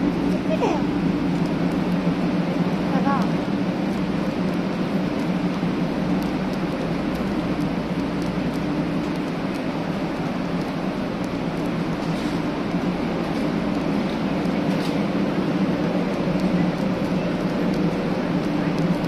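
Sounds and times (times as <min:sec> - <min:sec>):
train equipment whirring hum: 0:00.0 - 0:19.0.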